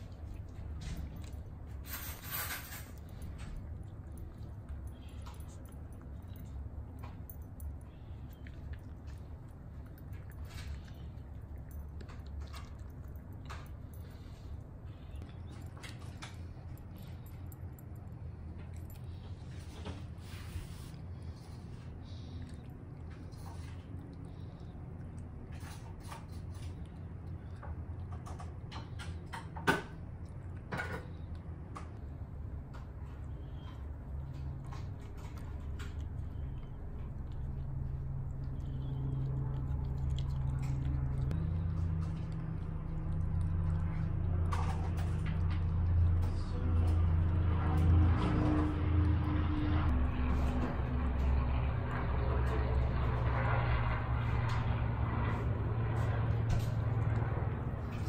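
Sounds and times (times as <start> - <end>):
dog chewing crunchy treats: 0.0 - 58.0
low hum: 0.0 - 58.0.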